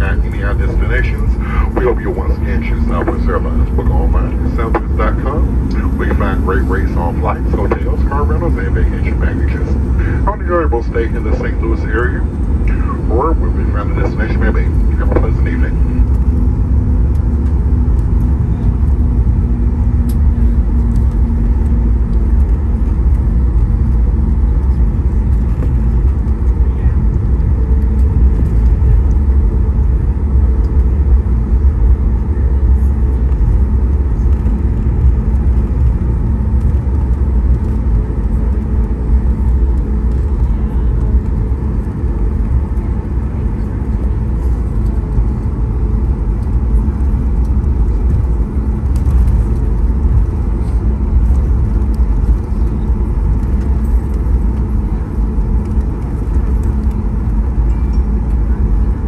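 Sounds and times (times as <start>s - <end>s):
aircraft engines idling: 0.0s - 59.0s
wheels rolling on taxiway: 0.0s - 59.0s.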